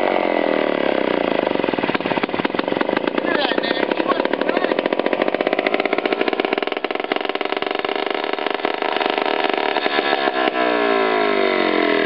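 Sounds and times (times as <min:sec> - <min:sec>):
two-stroke engine exhaust pops: 0:00.0 - 0:12.0.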